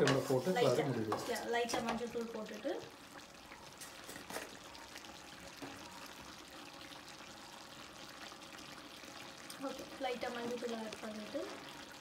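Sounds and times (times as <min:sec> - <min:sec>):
chicken bubbling and sizzling: 0:00.0 - 0:12.0.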